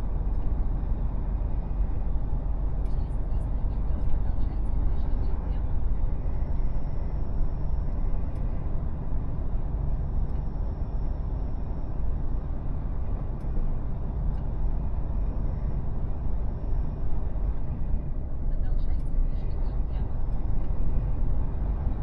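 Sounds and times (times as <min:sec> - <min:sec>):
road noise: 0:00.0 - 0:22.0
truck diesel engine rumble: 0:00.0 - 0:22.0.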